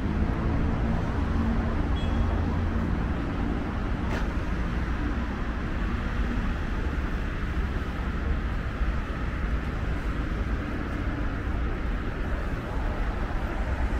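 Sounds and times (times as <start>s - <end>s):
road traffic rumble: 0.0s - 13.9s.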